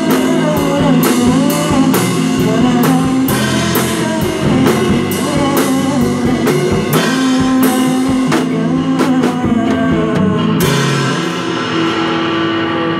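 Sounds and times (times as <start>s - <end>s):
live rock band playing: 0.0s - 12.9s.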